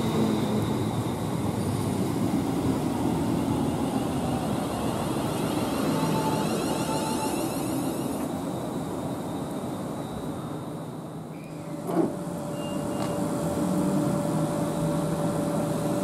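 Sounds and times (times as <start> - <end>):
train noise: 0.0 - 16.0.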